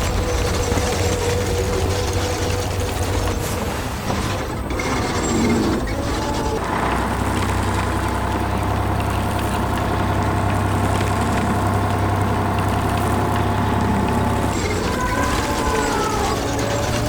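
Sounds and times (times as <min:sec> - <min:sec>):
deep engine hum: 0:00.0 - 0:17.0.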